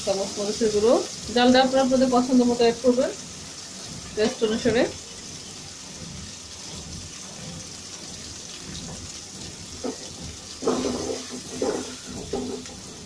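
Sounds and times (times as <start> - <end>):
hot oil sizzling in a pot: 0.0 - 13.0
wooden spatula stirring: 0.2 - 13.0.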